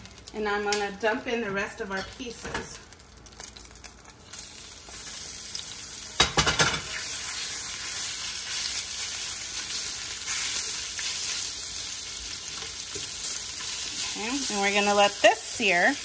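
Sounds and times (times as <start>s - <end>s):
meat sizzling in hot oil: 1.2s - 16.0s.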